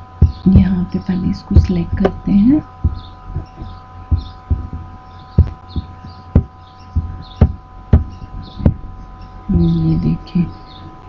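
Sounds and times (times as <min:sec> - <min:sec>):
electrical hum: 0:00.0 - 0:11.0
faint steady tones: 0:00.0 - 0:11.0.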